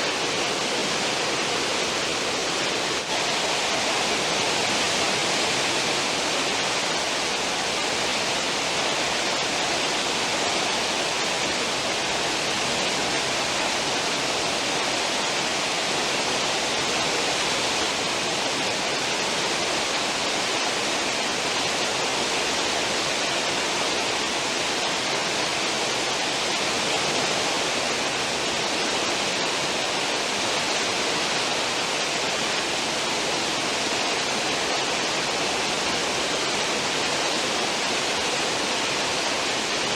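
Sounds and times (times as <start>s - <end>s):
ship wake rushing water: 0.0s - 39.9s.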